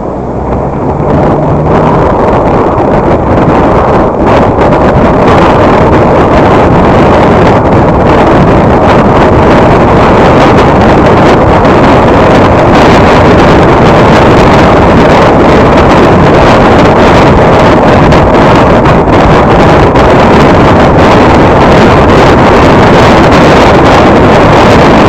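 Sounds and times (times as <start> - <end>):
road and wind noise in car: 0.0 - 25.0.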